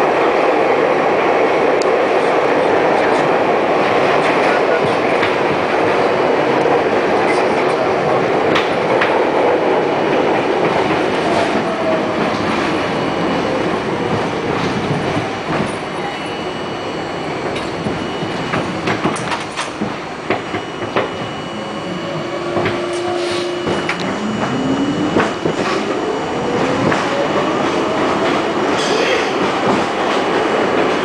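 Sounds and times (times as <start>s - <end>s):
subway wheel and track noise: 0.0s - 31.0s.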